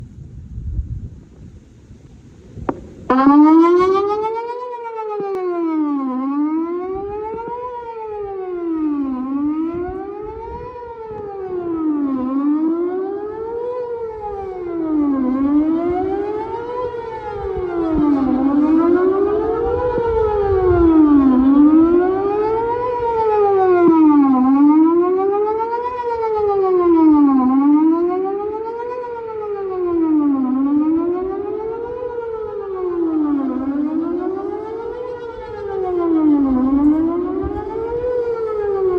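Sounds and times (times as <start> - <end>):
warning siren wailing up and down: 2.6 - 38.9.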